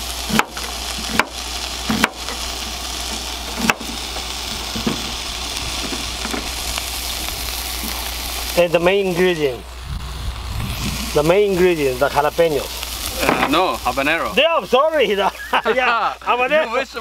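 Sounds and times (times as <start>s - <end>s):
patties sizzling in skillet: 0.0s - 17.0s.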